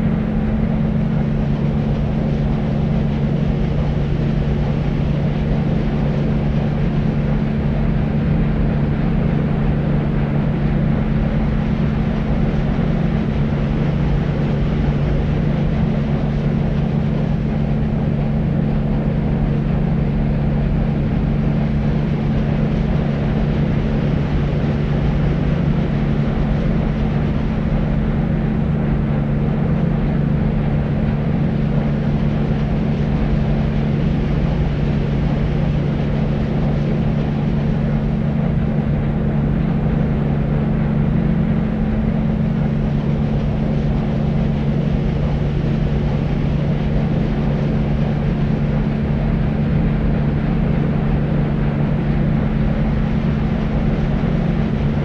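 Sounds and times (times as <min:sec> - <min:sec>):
low hum: 0:00.0 - 0:55.0.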